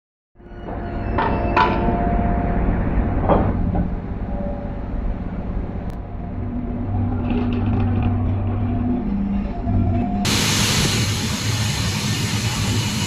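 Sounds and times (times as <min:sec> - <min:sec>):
crane machinery humming: 0:01.0 - 0:13.0.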